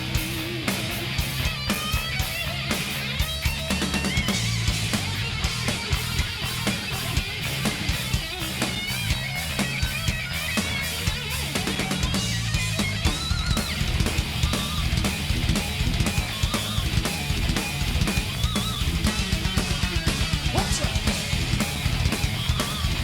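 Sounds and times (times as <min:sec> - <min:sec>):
heavy metal music: 0:00.0 - 0:23.0.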